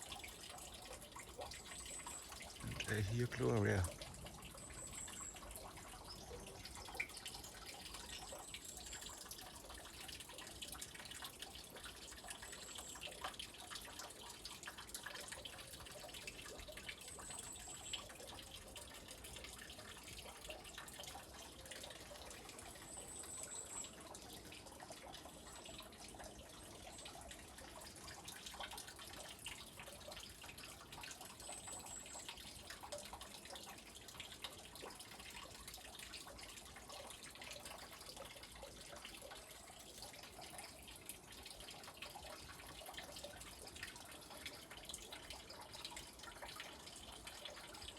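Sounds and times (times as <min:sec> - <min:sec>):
spring water trickling: 0:00.0 - 0:47.9.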